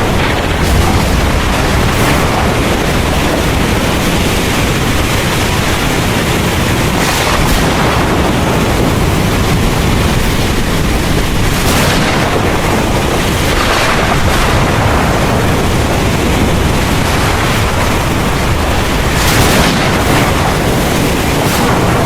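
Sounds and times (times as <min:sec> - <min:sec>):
heavy rain falling: 0:00.0 - 0:22.0
low thunder rumble: 0:00.0 - 0:22.0.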